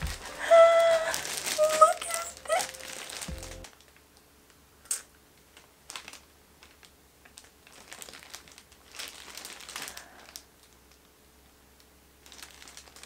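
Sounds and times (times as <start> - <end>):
plastic wrapping crinkling: 0.0 - 4.2, 5.4 - 11.1, 12.2 - 13.0.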